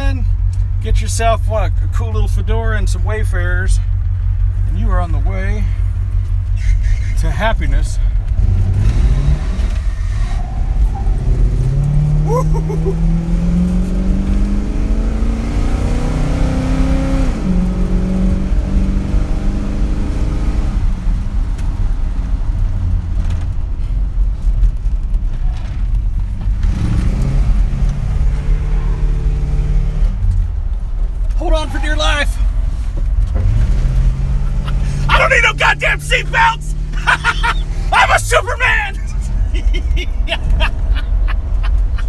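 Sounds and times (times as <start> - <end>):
car engine accelerating: 1.6 - 42.0.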